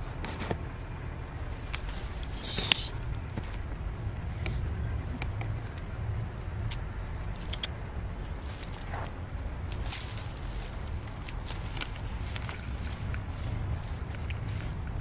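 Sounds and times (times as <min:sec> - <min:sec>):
steady low rumble: 0:00.0 - 0:15.0
leaves and twigs rustling: 0:00.3 - 0:15.0.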